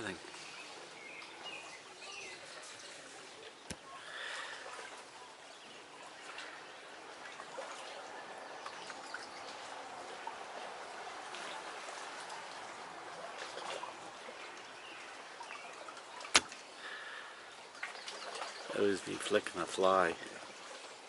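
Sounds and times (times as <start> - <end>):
lake water lapping: 0.0 - 21.0.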